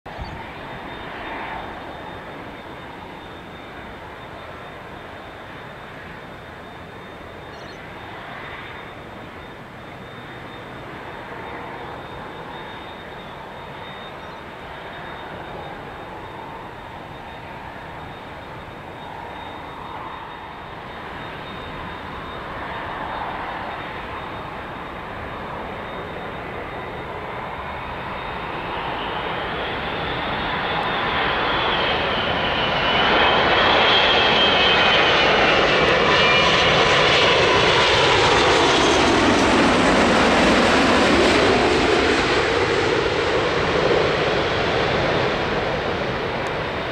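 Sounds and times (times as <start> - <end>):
high engine whine: 0.1 - 46.9
jet engines on approach: 0.1 - 46.9.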